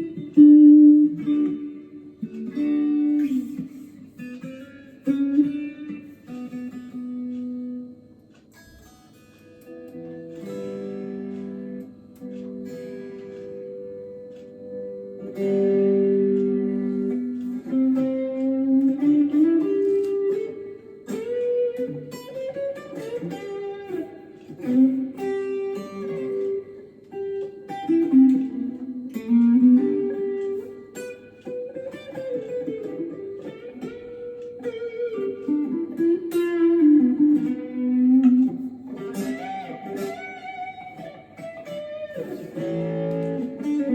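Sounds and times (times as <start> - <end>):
electric guitar through an amp: 0.0 - 43.9.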